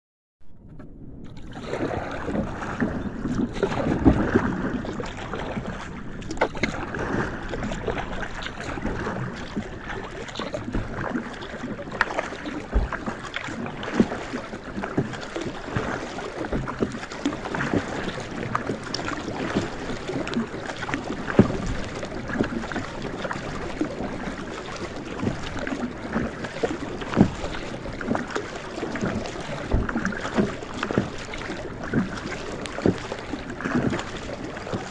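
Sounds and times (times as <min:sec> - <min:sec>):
wind on microphone: 0:00.5 - 0:34.9
water slapping against kayak hull: 0:00.6 - 0:34.9
rush of water: 0:01.2 - 0:34.9.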